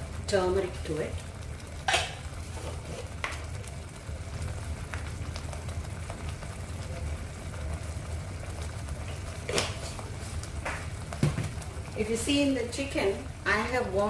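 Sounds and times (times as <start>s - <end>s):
thick paste bubbling in a pan: 0.0s - 14.0s.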